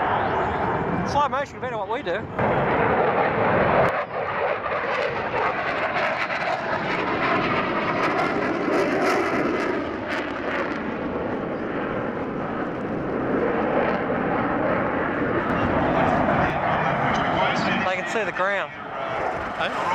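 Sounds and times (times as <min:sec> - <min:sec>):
jet engine crackles: 0:00.0 - 0:19.9
jet flying overhead: 0:00.0 - 0:19.9.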